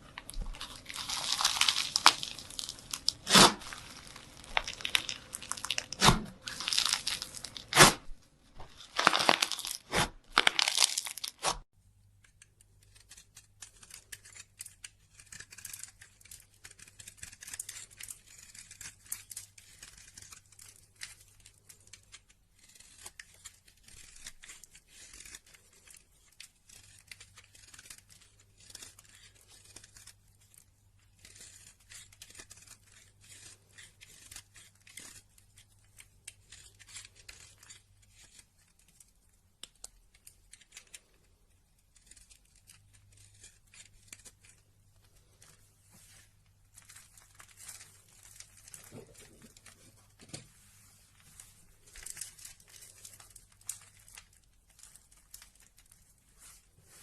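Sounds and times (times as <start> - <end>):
crinkling and tearing: 0.0 - 11.7, 12.9 - 57.0.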